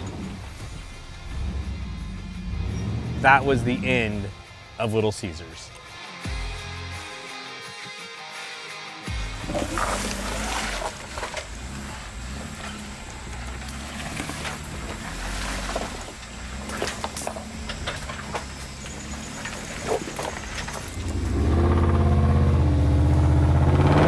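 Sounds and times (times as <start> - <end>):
off-road engine rumbling: 0.0 - 4.6, 9.1 - 24.0.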